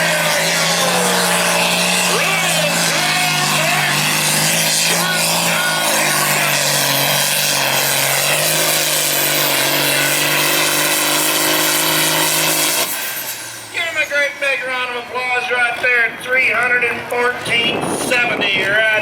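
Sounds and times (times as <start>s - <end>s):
engine at full throttle: 0.0s - 19.0s.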